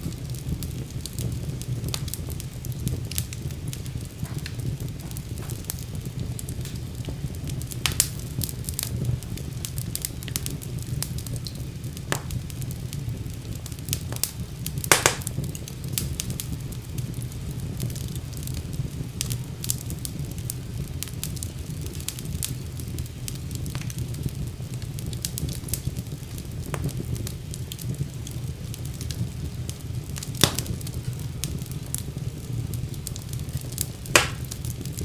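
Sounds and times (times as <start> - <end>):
fire crackling and popping: 0.0 - 35.0
fire flames rumbling: 0.0 - 35.0.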